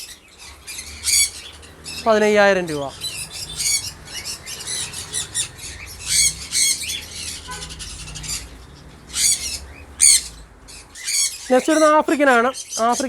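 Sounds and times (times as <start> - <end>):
parrot screeches: 0.0 - 2.2, 2.8 - 11.9
parrots squawking and chirping: 0.0 - 13.0.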